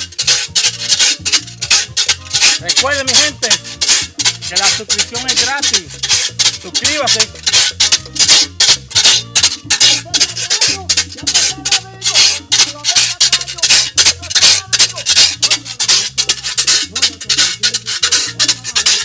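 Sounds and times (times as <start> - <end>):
backing track with bass line: 0.0 - 19.0
metal scraper rasping rhythm: 0.0 - 19.0.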